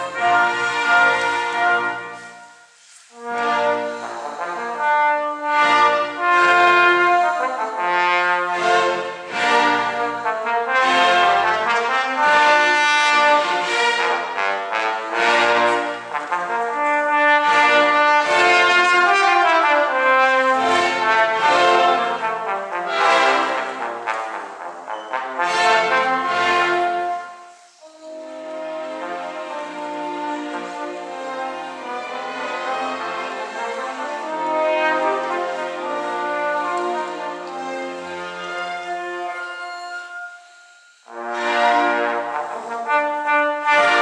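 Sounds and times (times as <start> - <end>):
solo trombone playing: 0.0 - 44.0.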